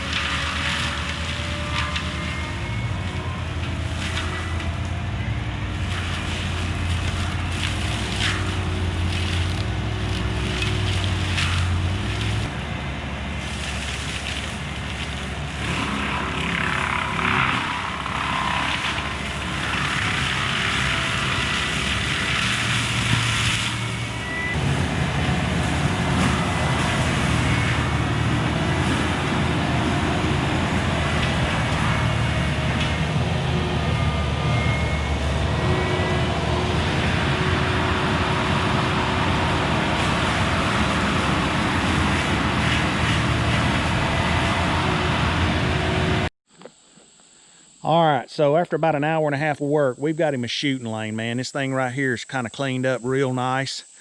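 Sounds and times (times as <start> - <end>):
diesel engine running under load: 0.0 - 46.3
drum mulcher grinding brush: 0.0 - 47.3.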